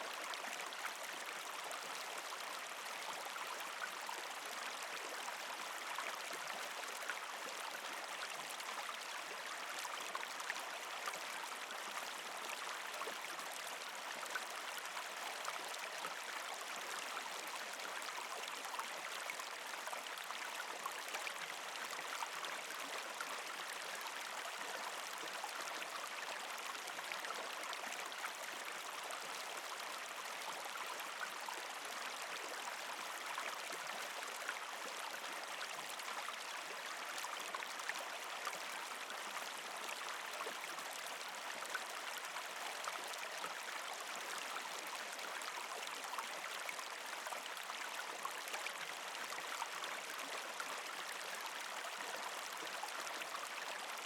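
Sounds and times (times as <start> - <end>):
creek trickling over rocks: 0.0 - 54.0.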